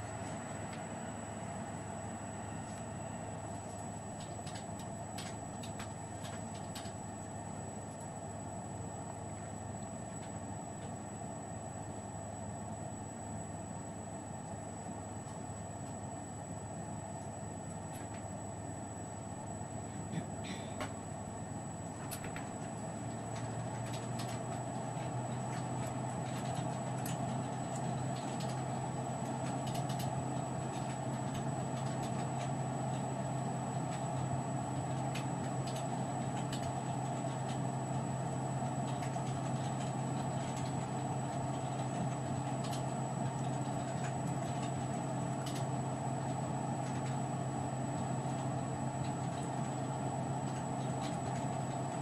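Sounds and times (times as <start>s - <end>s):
background hum and hiss: 0.0s - 52.0s.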